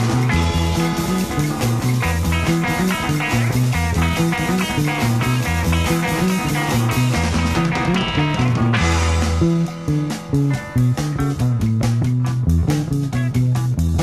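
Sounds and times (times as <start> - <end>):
psychedelic rock instrumental: 0.0 - 14.0.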